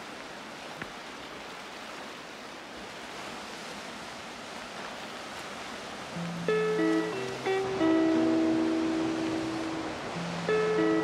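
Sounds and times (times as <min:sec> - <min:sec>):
waves washing on rocky shore: 0:00.0 - 0:11.0.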